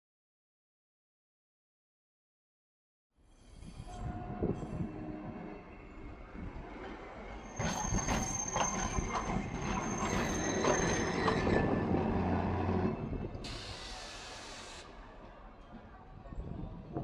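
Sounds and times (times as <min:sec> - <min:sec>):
low hum of passing tram: 0:03.3 - 0:17.0.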